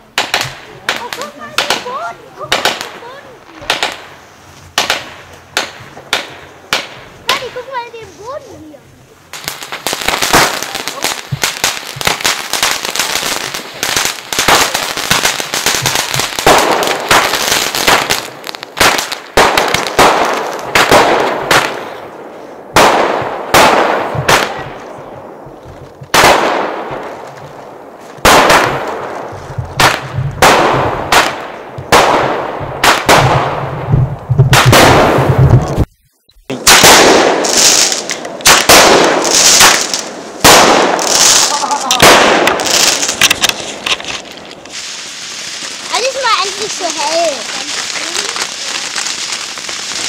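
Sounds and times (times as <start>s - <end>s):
fireworks cracking and banging: 0.0s - 50.0s.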